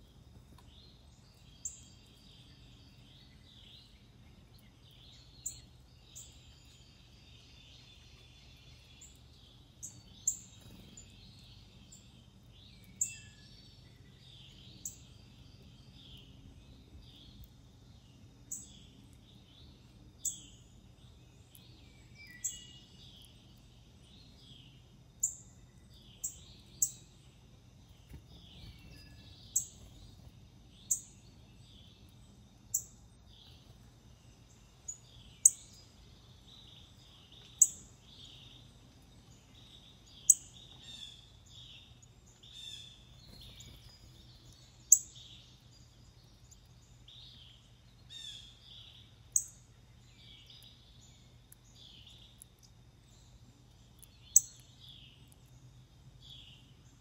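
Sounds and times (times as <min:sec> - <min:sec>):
faint low hum: 0:00.0 - 0:57.0
soft bird chirps: 0:00.0 - 0:57.0.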